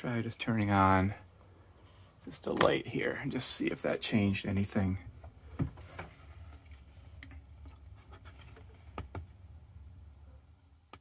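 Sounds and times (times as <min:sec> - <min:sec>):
faint handling noise: 0:00.3 - 0:09.4.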